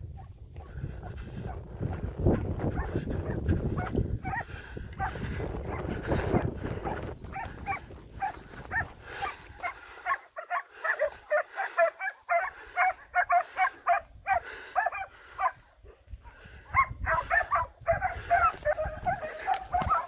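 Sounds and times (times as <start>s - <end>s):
dogs barking: 0.0s - 20.0s.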